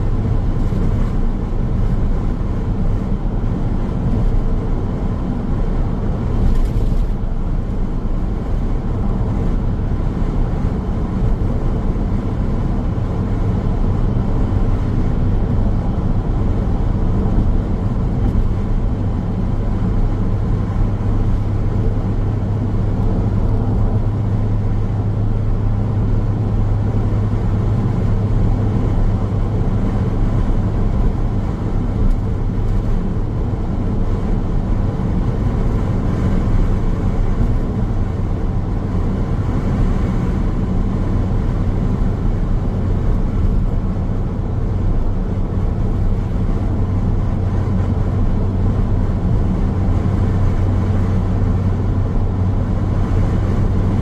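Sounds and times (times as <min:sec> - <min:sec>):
car road and tyre noise: 0:00.0 - 0:54.0.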